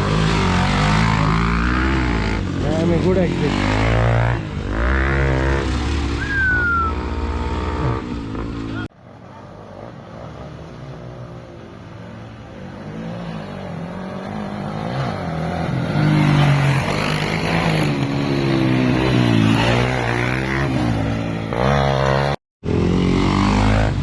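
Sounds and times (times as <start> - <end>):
off-road motorcycle engine revving: 0.0 - 8.9, 10.1 - 24.0.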